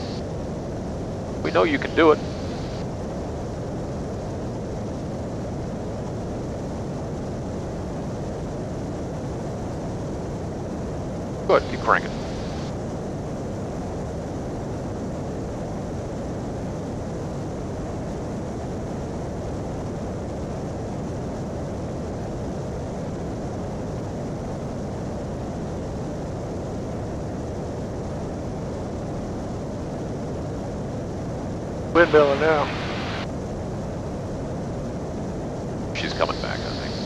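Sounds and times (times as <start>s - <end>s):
aircraft cabin engine drone: 0.0s - 22.2s, 23.2s - 37.0s.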